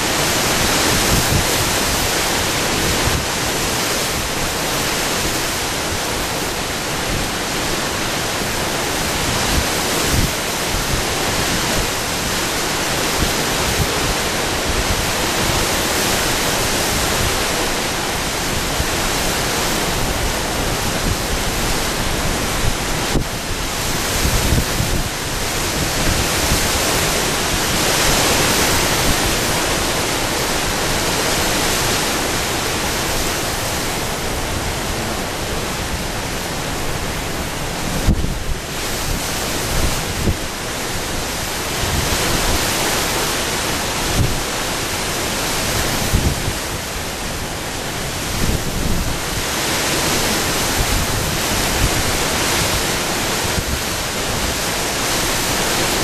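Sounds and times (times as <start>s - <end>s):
gusty wind buffeting microphone: 0.0s - 56.0s.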